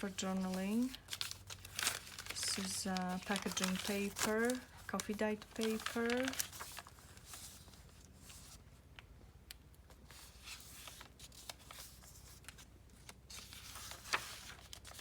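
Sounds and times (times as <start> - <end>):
paper pages rustling: 0.0 - 8.6, 9.9 - 15.0.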